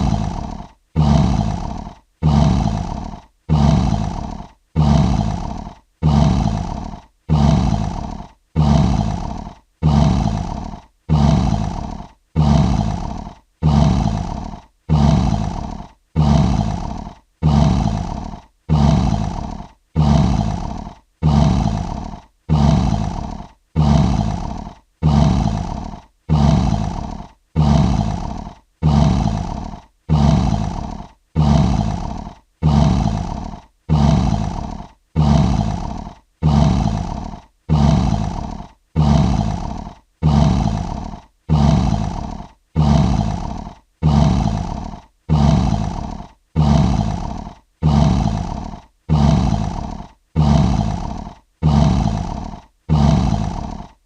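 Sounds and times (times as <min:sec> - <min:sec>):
lion roaring: 0:00.0 - 0:54.0.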